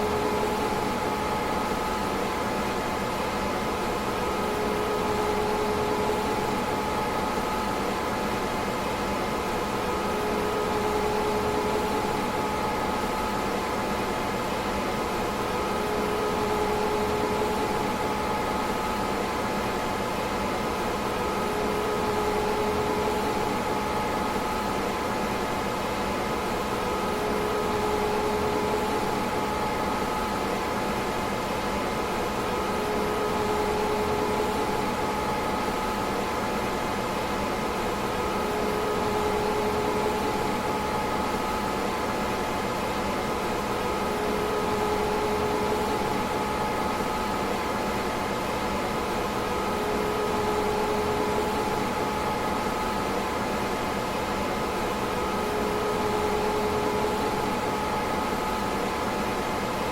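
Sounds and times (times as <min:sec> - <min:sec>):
cooling fans whirring: 0:00.0 - 0:59.9.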